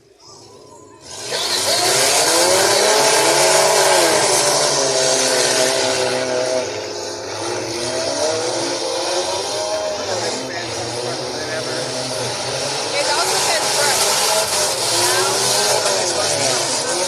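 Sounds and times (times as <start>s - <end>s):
car engines revving hard: 0.0s - 17.0s.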